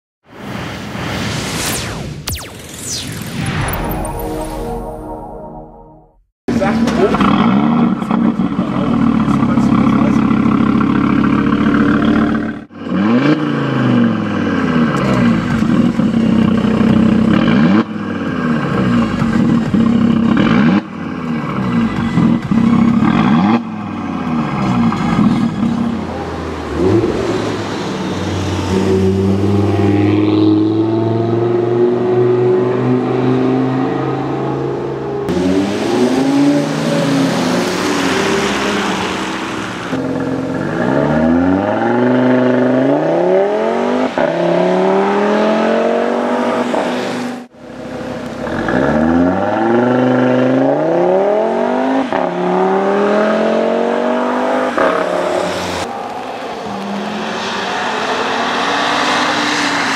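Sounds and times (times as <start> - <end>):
car engine accelerating hard: 6.5 - 59.9.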